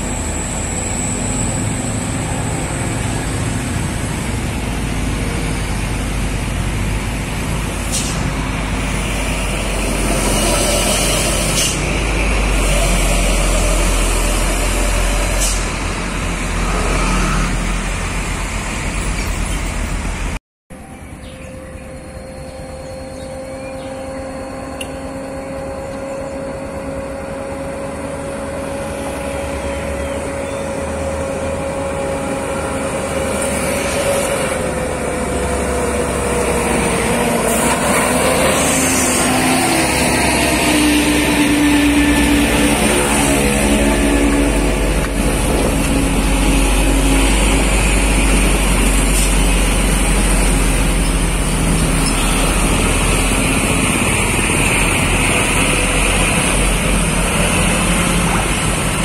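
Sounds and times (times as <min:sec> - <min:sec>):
truck diesel engine: 0:00.0 - 0:59.0.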